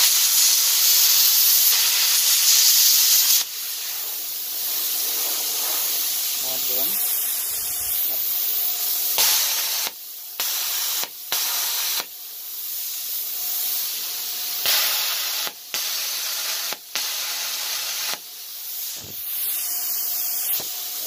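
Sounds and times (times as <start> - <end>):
plasma cutter hissing: 0.0 - 21.0.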